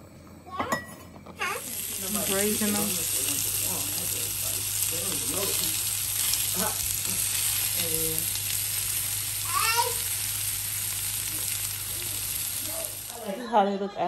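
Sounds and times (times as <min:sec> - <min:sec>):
meat sizzling in oil: 0:01.4 - 0:13.4.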